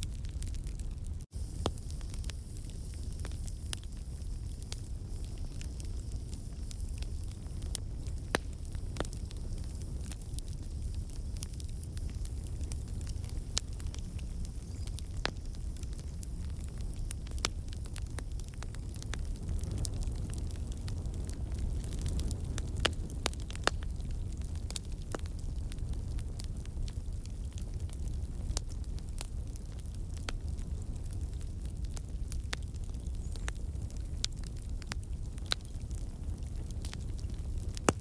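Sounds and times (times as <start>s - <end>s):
logs crackling and popping: 0.0s - 38.0s
low rumble of flame: 0.0s - 38.0s.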